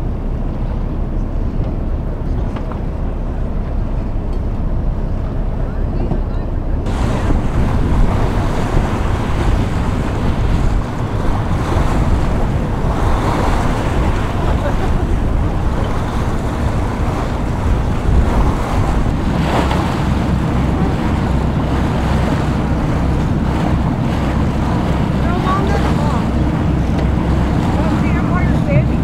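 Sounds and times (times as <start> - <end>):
water rushing and splashing: 0.0 - 29.0
wind buffeting microphone: 0.0 - 29.0.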